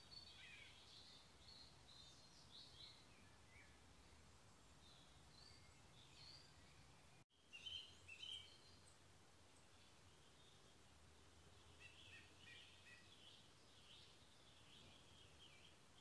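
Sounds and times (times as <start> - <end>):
low steady background noise: 0.0 - 16.0
songbird chirping and warbling: 0.0 - 16.0.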